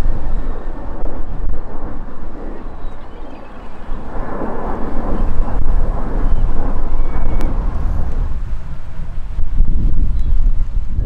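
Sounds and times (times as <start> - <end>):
jet engine rumble overhead: 0.0 - 11.0
wind buffeting microphone: 0.0 - 11.0.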